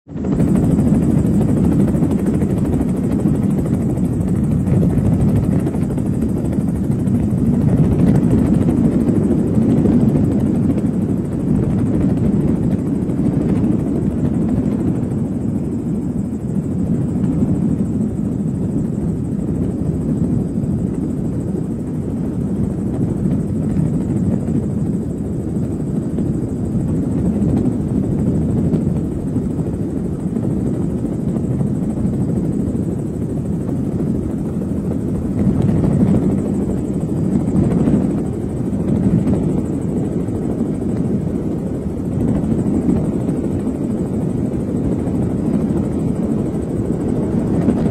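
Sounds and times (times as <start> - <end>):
helicopter rotor and engine drone: 0.0 - 47.9.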